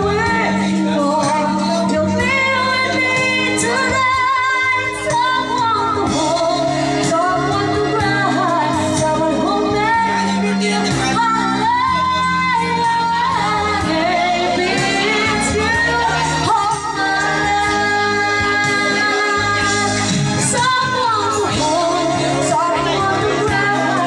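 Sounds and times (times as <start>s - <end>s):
amplified backing track: 0.0s - 24.0s
woman singing into a microphone: 0.0s - 24.0s.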